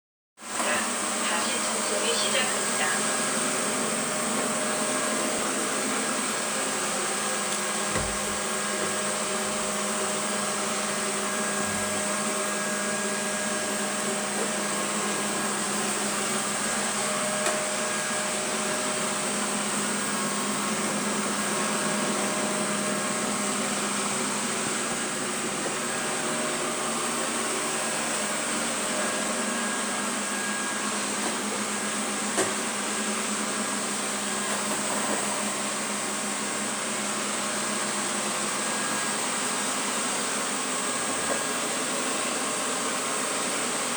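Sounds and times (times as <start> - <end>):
robot vacuum whirring and whining: 0.5 - 43.9.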